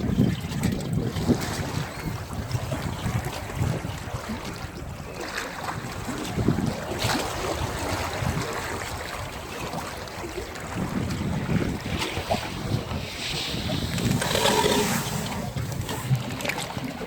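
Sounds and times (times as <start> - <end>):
sea water lapping and splashing: 0.0 - 17.0
wind buffeting microphone: 0.0 - 17.0.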